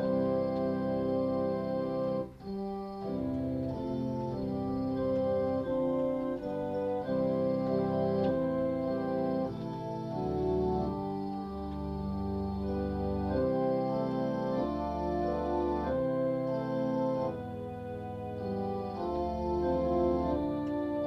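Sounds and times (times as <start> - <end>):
organ chords on keyboard: 0.0 - 21.0.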